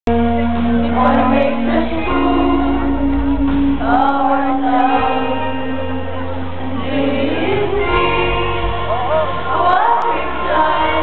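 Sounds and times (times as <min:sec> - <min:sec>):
live rock band playing: 0:00.1 - 0:11.0
person singing: 0:00.1 - 0:11.0.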